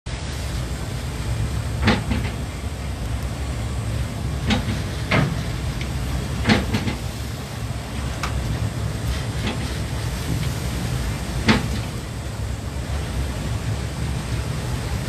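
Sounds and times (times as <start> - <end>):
low rumble of waves: 0.1 - 15.0.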